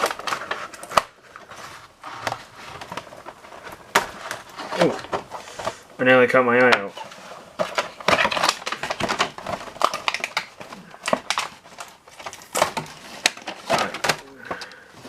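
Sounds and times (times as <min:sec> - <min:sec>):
plastic packaging crackling: 0:00.0 - 0:15.0.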